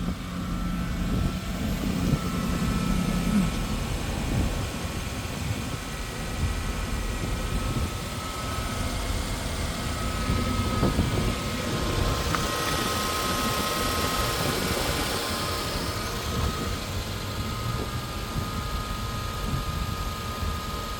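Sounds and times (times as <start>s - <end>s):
car engine idling: 0.0s - 20.9s
thin steady whine: 0.0s - 20.9s.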